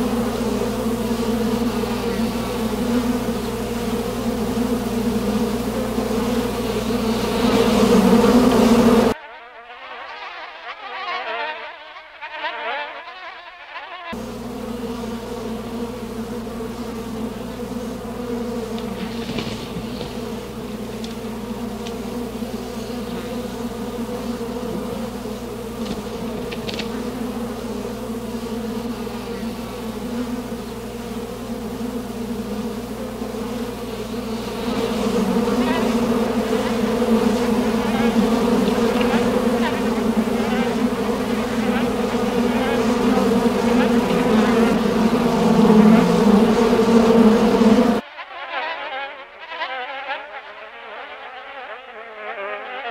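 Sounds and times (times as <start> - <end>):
low buzzing drone: 0.0 - 9.2, 14.2 - 48.0.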